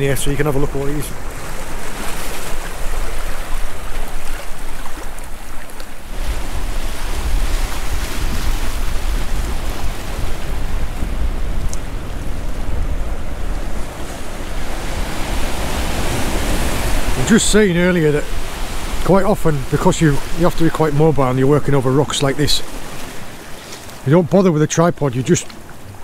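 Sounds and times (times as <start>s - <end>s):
wind rumbling on microphone: 0.0s - 23.6s
waves breaking over rocks: 0.0s - 26.0s.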